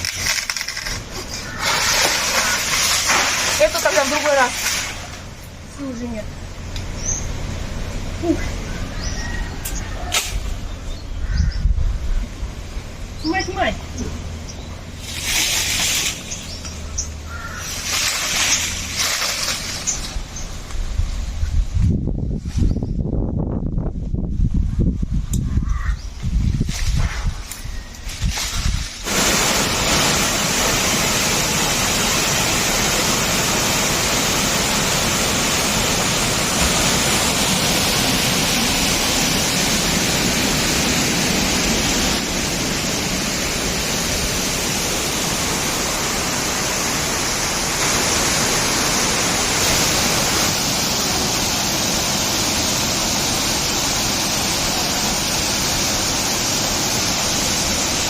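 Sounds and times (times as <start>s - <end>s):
rushing water roar: 0.0s - 21.7s, 26.9s - 58.0s.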